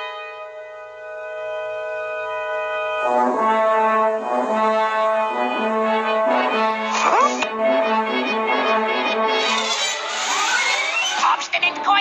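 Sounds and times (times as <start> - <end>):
brass music: 0.0 - 12.0.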